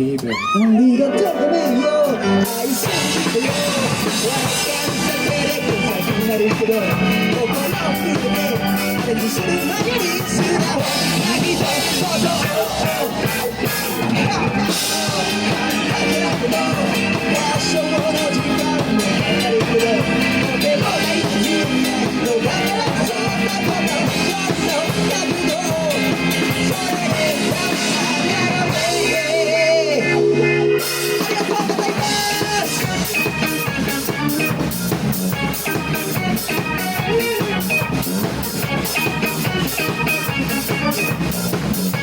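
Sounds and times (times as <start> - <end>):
bass: 0.0 - 42.0
drum kit beat: 0.0 - 42.0
guitar: 0.0 - 42.0.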